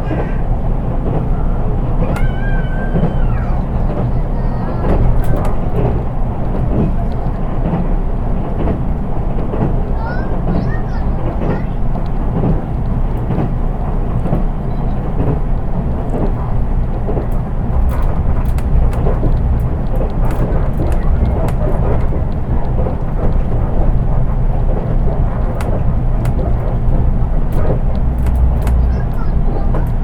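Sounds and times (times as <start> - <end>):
train wheels rumbling on rail: 0.0 - 30.0
light clicks and rattles: 2.0 - 30.0.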